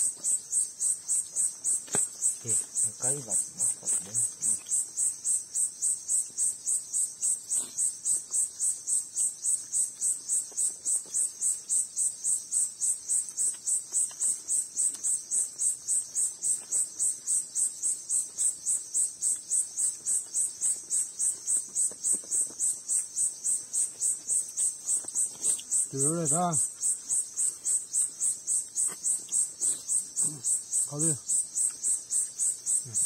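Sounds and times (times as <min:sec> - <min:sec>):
insect chirping: 0:00.0 - 0:33.0.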